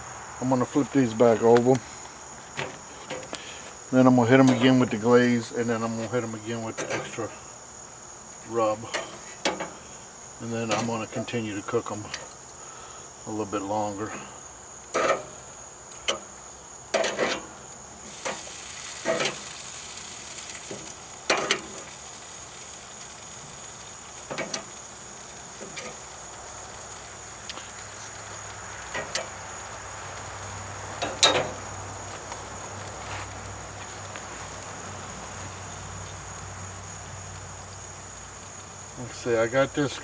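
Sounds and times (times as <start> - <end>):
chicken sizzling on a grill: 0.0 - 40.0
crickets chirping: 0.0 - 40.0.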